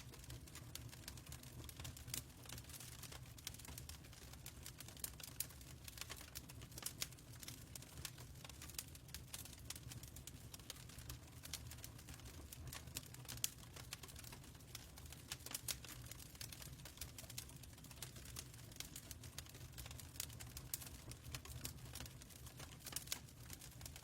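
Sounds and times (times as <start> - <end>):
fireplace crackling and popping: 0.0 - 24.0.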